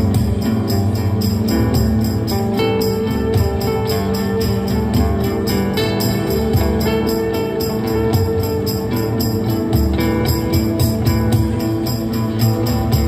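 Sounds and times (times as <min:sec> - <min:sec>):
fast high percussion beat: 0:00.0 - 0:13.0
held low notes: 0:00.0 - 0:13.0.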